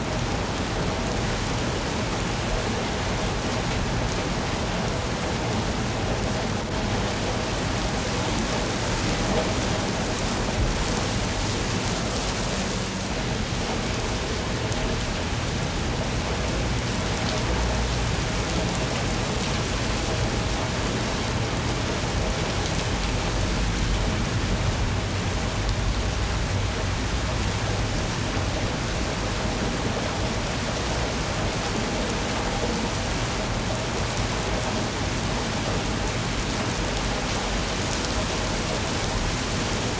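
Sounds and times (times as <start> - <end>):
rain hissing: 0.1 - 39.9.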